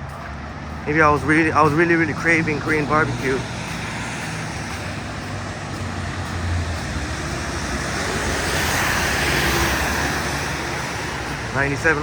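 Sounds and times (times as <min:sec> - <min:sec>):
low engine hum: 0:00.0 - 0:12.0
bus tyres hissing on wet road: 0:00.2 - 0:12.0.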